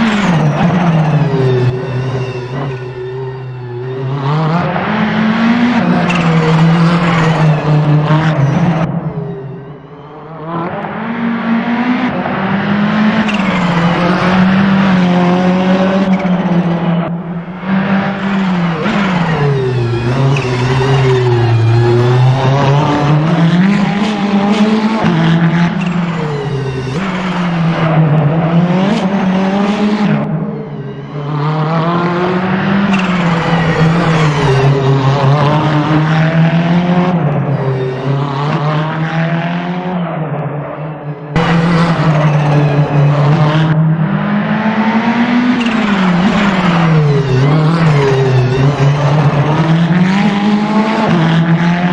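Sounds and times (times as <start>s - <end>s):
racing engine accelerating hard: 0.0s - 51.9s.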